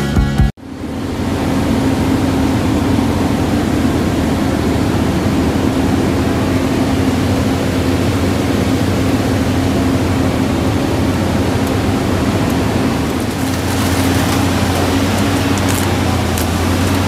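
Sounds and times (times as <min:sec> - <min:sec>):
welding machine running: 0:00.7 - 0:17.0.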